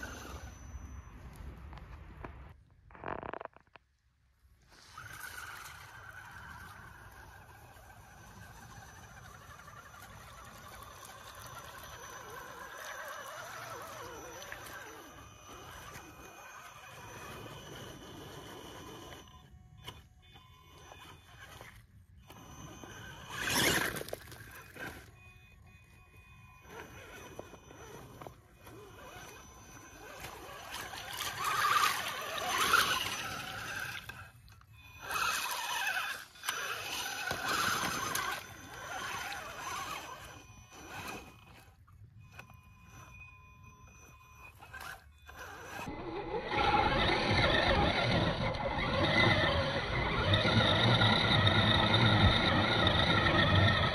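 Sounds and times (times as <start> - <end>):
toy car motor surging: 0.0 - 0.7, 4.7 - 53.9.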